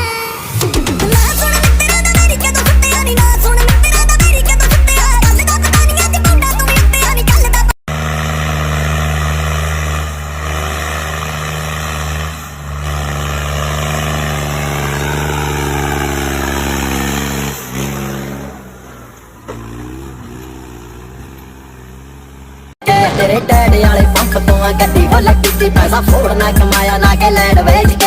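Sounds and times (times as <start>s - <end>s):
vehicle engine running: 0.8s - 28.0s.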